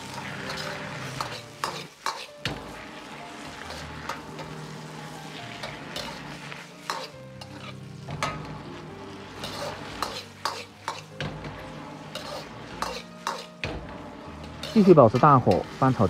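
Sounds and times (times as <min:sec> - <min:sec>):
metal ladle scraping wok: 0:00.0 - 0:16.0
vegetables sizzling in wok: 0:00.0 - 0:16.0.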